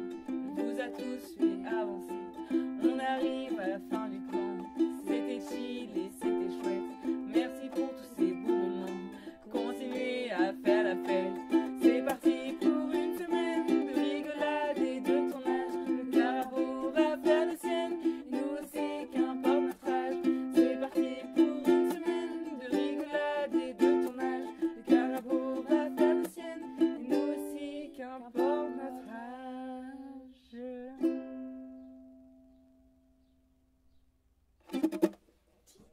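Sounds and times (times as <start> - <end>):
strummed acoustic string instrument: 0.0 - 29.8, 34.6 - 35.4.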